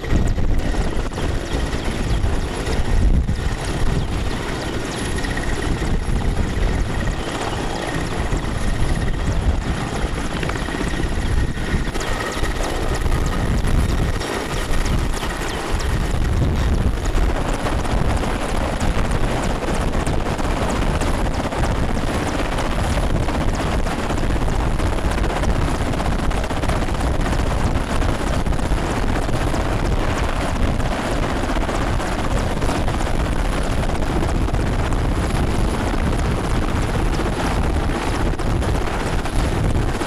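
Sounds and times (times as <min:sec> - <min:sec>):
helicopter engines and rotor: 0:00.0 - 0:40.0.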